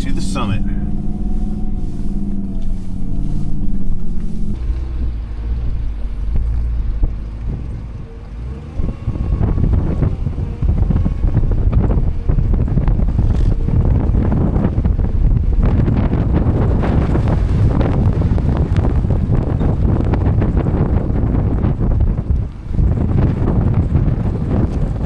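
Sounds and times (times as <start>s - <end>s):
truck engine running: 0.0s - 25.0s
wind buffeting microphone: 0.0s - 25.0s.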